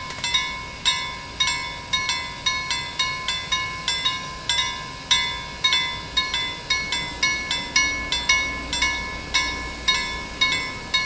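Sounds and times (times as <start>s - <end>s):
level crossing bell ringing: 0.1s - 11.0s.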